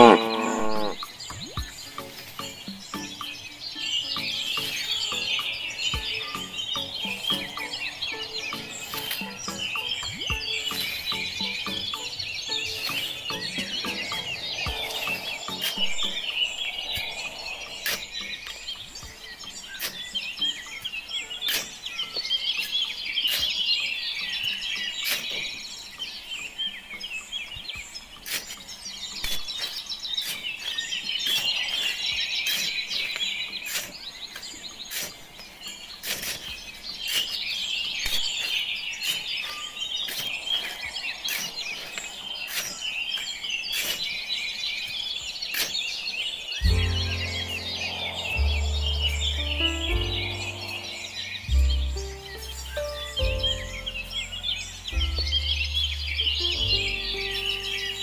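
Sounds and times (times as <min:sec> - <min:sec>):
many small birds chirping: 0:00.0 - 0:58.0.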